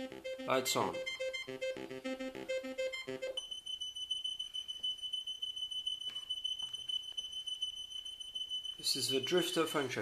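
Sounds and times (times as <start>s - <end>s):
high-pitched synth tone: 0.0s - 10.0s
synthesizer sequenced notes: 0.0s - 10.0s.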